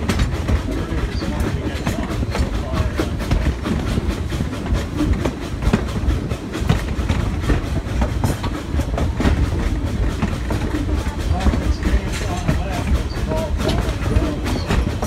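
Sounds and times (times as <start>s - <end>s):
train wheels rumbling: 0.0s - 15.0s
wheel clicks and knocks: 0.0s - 15.0s.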